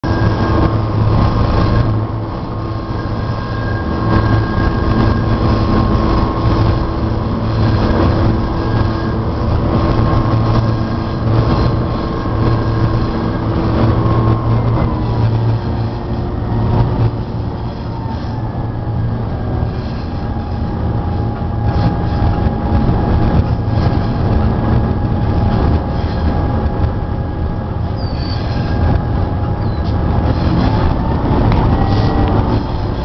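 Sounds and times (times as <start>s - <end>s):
diesel train rumbling: 0.0s - 33.0s.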